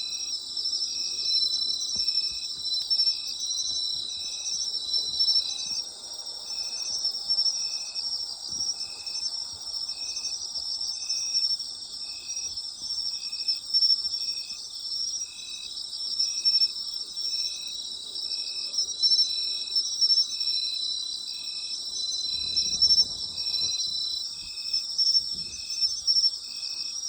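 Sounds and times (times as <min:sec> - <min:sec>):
insects trilling: 0:00.0 - 0:27.0
low insect chirps: 0:00.0 - 0:27.0.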